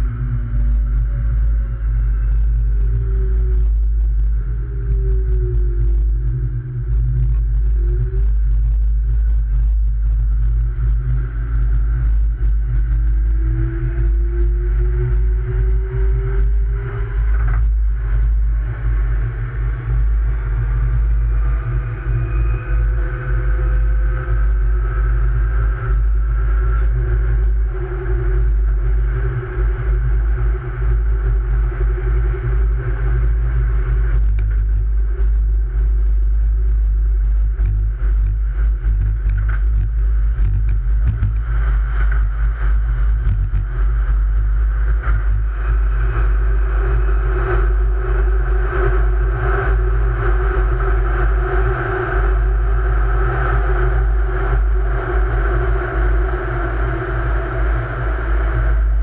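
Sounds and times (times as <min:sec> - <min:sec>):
traction motor whine: 0:00.0 - 0:59.0.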